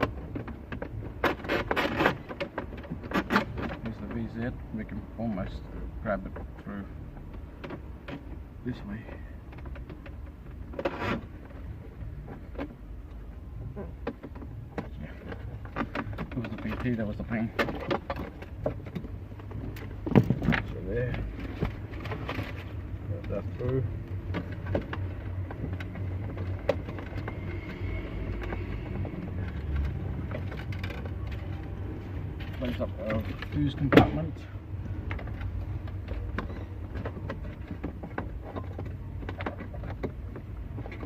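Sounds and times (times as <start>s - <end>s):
light clicks and rubbing: 0.0s - 41.0s.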